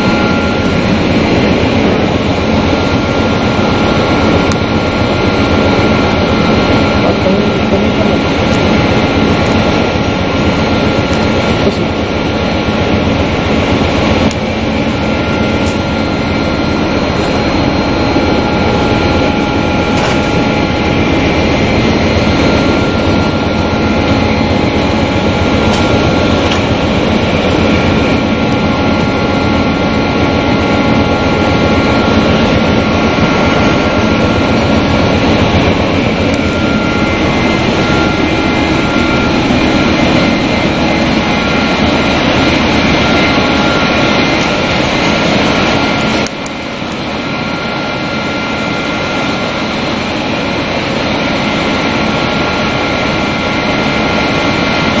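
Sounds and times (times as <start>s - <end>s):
machine whining tones: 0.0s - 55.0s.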